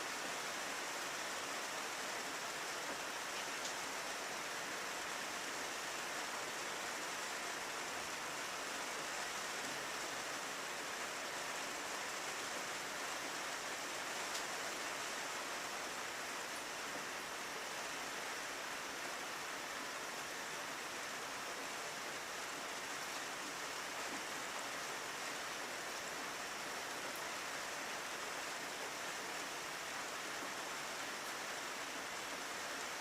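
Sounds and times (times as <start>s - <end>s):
rain on a window: 0.0s - 33.0s.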